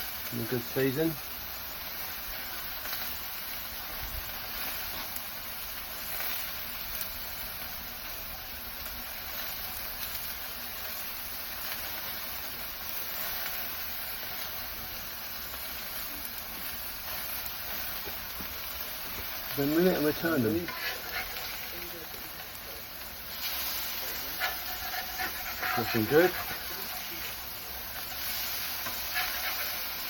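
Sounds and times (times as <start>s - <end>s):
burger patties sizzling on griddle: 0.0s - 30.0s.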